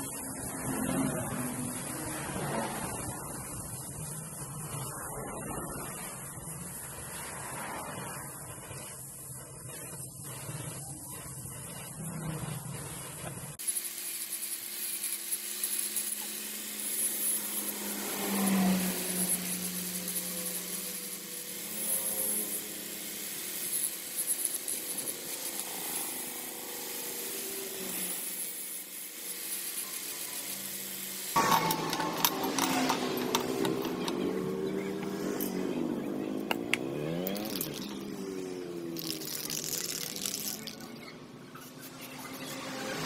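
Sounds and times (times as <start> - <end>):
angle grinder grinding metal: 0.0 - 43.0.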